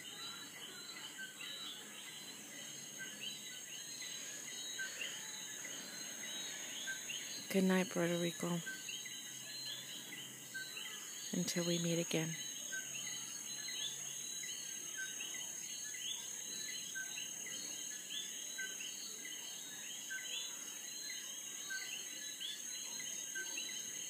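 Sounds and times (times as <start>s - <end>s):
frogs calling in chorus: 0.0s - 24.0s
steady high-pitched whine: 0.0s - 24.0s.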